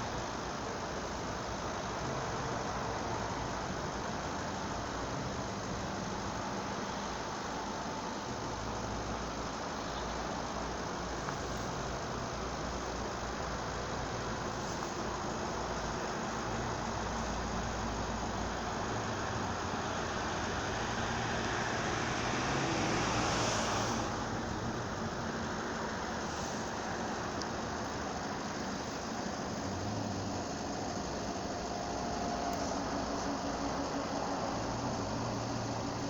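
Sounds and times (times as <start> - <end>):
motorway traffic hum: 0.0 - 36.0.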